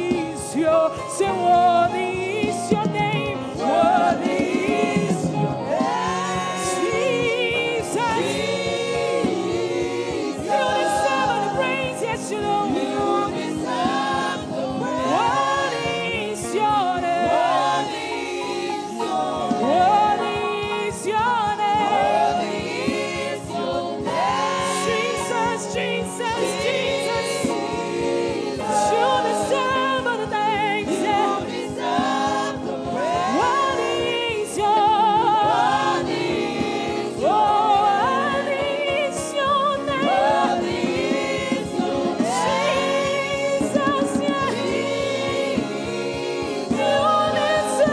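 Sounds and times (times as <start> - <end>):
choir and congregation singing: 0.0 - 47.9
lead voice singing: 0.0 - 47.9.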